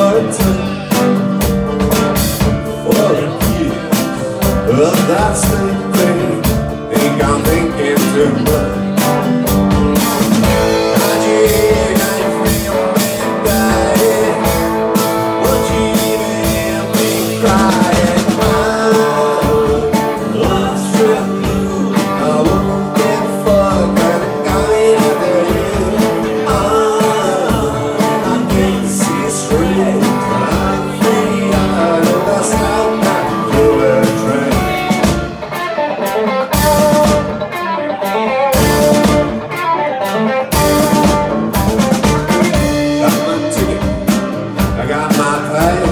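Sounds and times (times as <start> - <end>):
drum kit beat: 0.0 - 45.9
electric guitars: 0.0 - 45.9.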